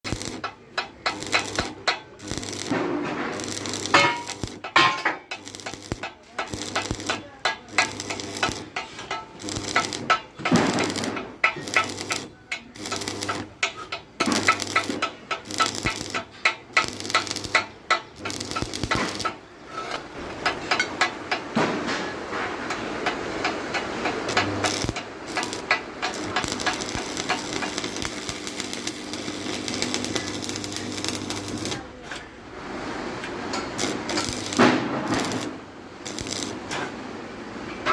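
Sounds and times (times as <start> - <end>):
arc welding crackling: 0.0 - 21.5, 22.5 - 37.1.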